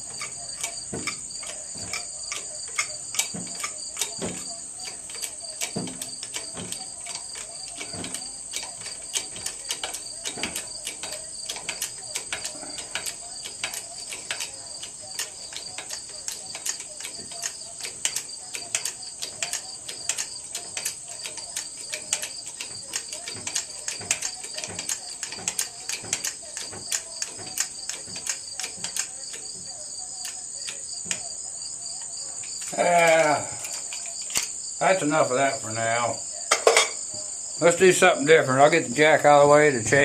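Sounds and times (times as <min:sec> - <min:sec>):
light clicks and ticks: 0:00.0 - 0:36.2
crickets chirring: 0:00.0 - 0:40.0.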